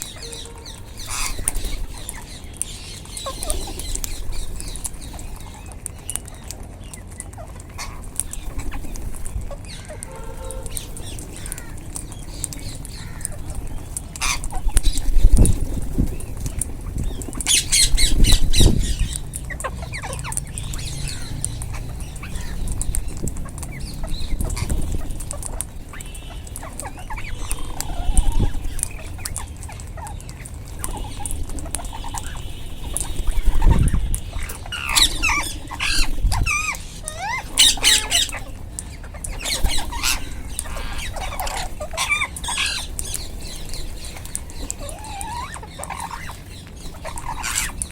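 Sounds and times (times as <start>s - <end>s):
parakeets squawking: 0.0s - 47.9s.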